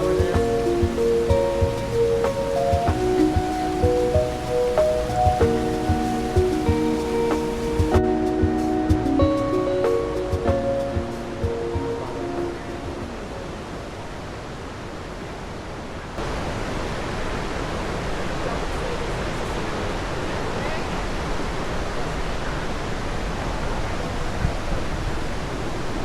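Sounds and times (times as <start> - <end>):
rushing water roar: 0.0 - 26.0.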